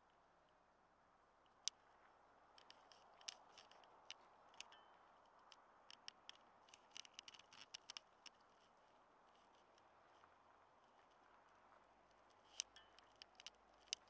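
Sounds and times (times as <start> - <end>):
soft steady hiss: 0.0 - 14.0
faint small clicks: 1.4 - 14.0.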